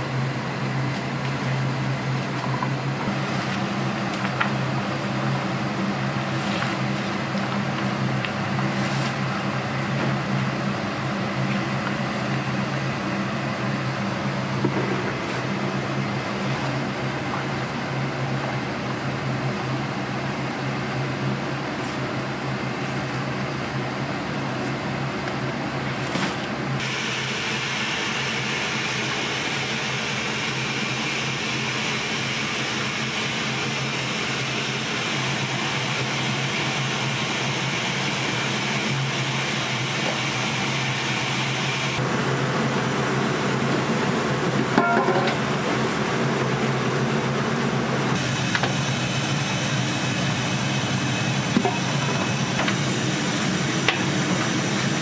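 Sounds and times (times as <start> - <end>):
kitchen ventilation fan humming: 0.0 - 55.0.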